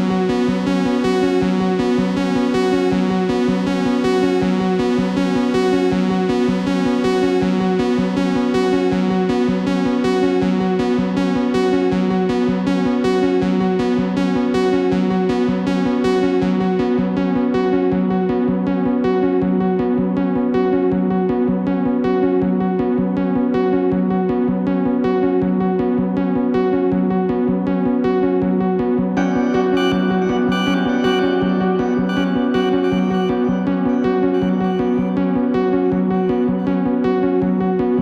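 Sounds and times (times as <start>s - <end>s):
ambient electronic music: 0.0s - 38.0s.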